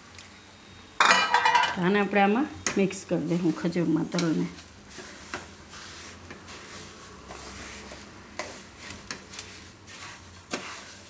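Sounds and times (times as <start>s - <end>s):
spatula scraping and tapping pan: 1.0s - 1.9s, 2.6s - 11.0s.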